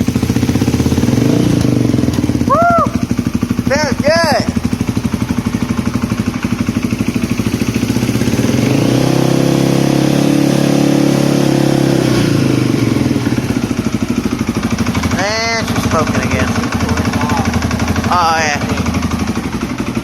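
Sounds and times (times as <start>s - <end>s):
atv engine idling and revving: 0.0s - 20.0s.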